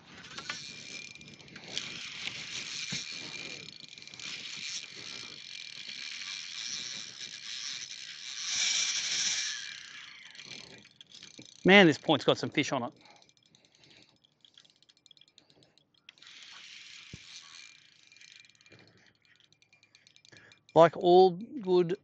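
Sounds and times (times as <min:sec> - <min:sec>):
fishing reel whirring and ratcheting: 0:00.0 - 0:22.0.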